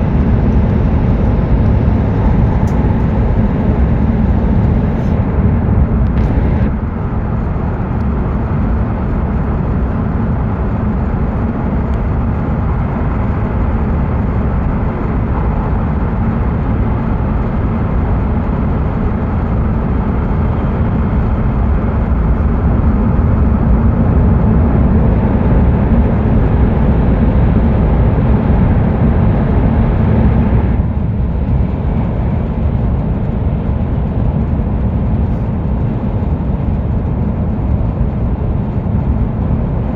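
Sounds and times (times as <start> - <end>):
high-speed train rumble and hiss: 0.0 - 39.9.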